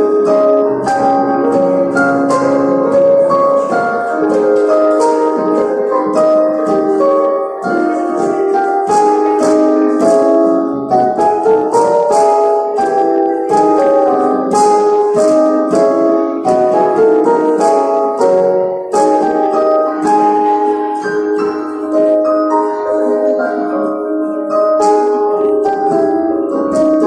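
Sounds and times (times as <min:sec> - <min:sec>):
digital piano playing chords: 0:00.0 - 0:27.0.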